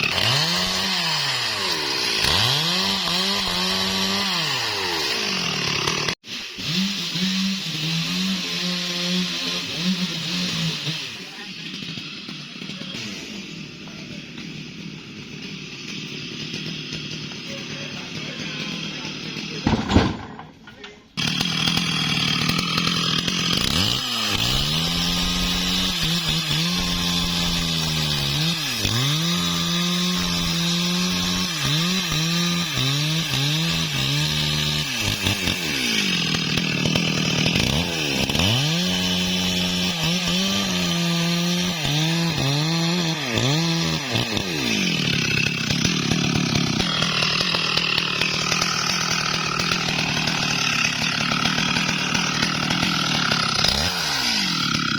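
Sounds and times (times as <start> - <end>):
chainsaw cutting into wood: 0.0 - 54.9.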